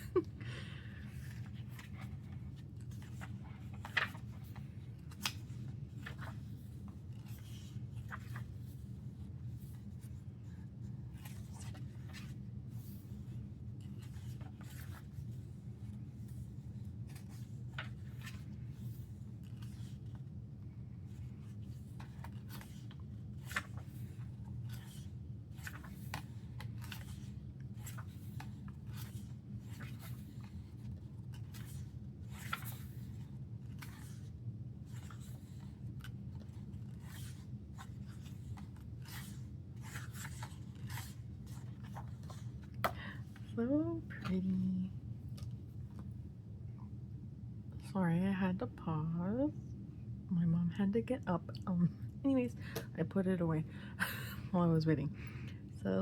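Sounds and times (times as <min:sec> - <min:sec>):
steady low hum: 0:00.0 - 0:56.0
book pages turning: 0:01.0 - 0:46.9.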